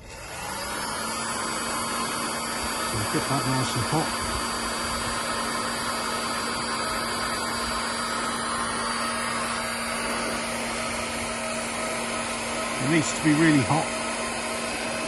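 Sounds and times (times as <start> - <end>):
heat gun blowing: 0.0 - 15.0.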